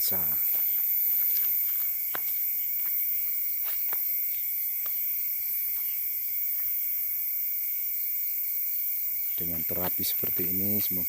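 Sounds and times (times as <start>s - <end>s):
crickets and insects chirring: 0.0s - 11.0s.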